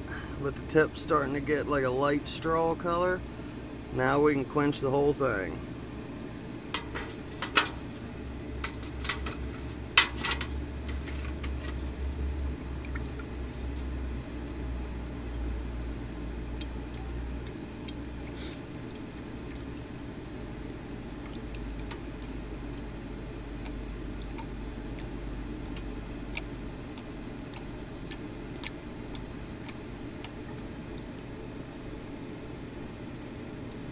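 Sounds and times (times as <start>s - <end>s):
faint bubbling sizzle: 0.0s - 4.1s, 4.8s - 33.9s.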